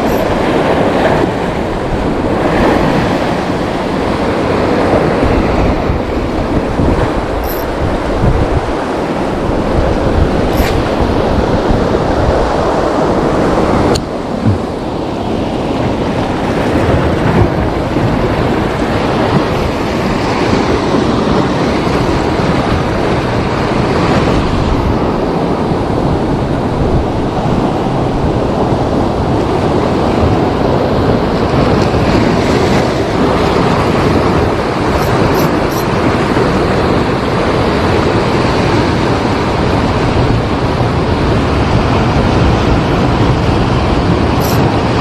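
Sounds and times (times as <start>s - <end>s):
sea waves breaking: 0.0s - 45.0s.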